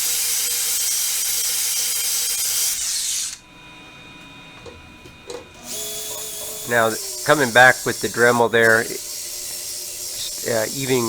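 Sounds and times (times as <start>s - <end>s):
angle grinder grinding metal: 0.0s - 3.4s, 5.6s - 11.0s.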